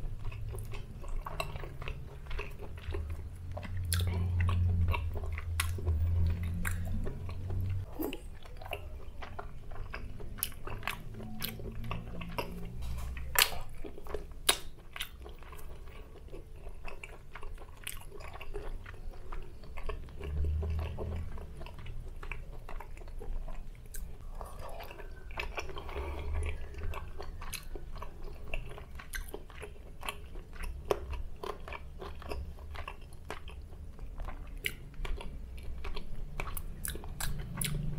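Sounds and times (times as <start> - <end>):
close chewing of food: 0.0 - 37.9.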